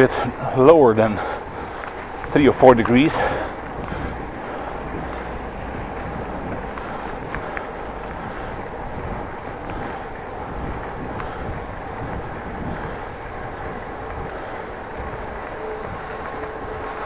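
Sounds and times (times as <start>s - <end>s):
tyres rumbling on road: 0.0s - 17.0s
wind buffeting microphone: 0.0s - 17.0s.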